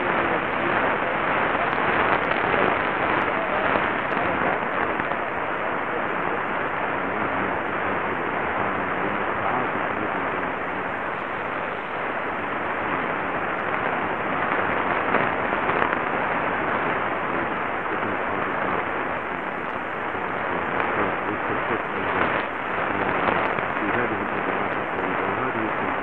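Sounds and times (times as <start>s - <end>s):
radio static hiss with crackles: 0.0s - 26.0s.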